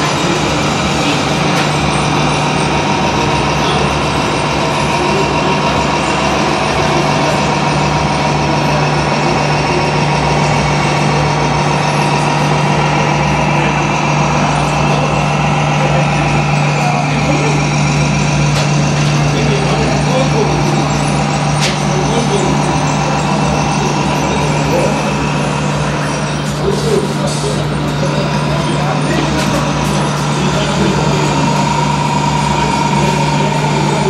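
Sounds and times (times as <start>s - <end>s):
diesel truck engine drone: 0.0s - 34.0s
hubbub of voices: 0.0s - 34.0s.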